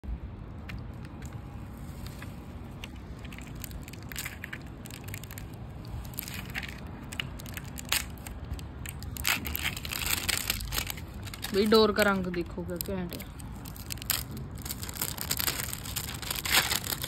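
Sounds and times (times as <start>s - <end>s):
steady low rumble: 0.0s - 17.0s
crinkling handling noise: 0.4s - 17.0s.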